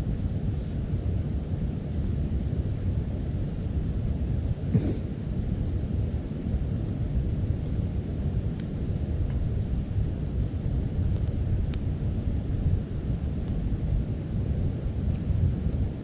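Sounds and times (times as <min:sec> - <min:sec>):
fire low rumble: 0:00.0 - 0:16.0.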